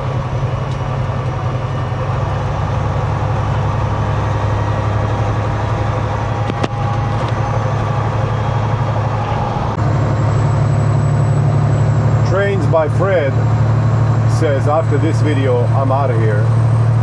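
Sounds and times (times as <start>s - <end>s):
road noise inside cab: 0.0s - 17.0s
truck diesel engine drone: 0.0s - 17.0s.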